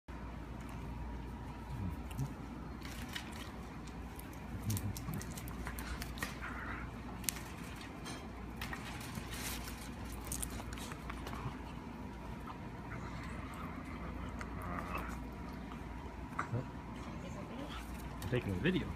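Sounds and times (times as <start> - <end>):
steady low hum: 0.1 - 18.9.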